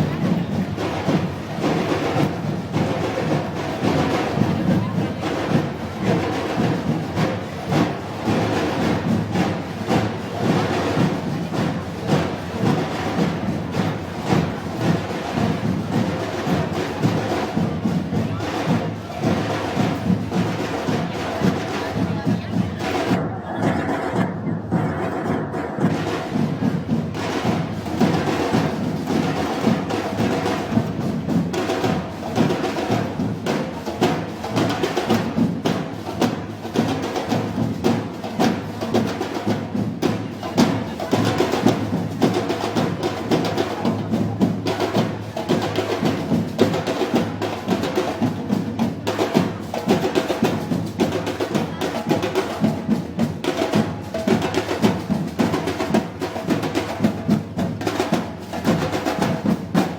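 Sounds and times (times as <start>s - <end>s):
drums and percussion beat: 0.0s - 59.9s.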